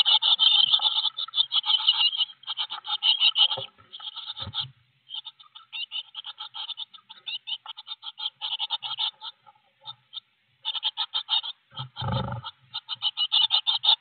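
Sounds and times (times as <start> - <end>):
nestlings begging calls: 0.0 - 14.0.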